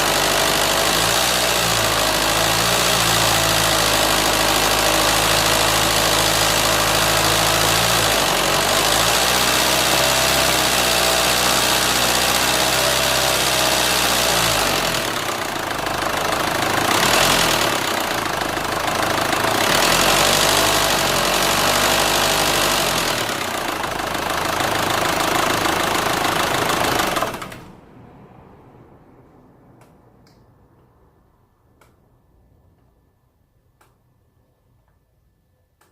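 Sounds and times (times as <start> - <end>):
diesel engine idling and revving: 0.0 - 30.4.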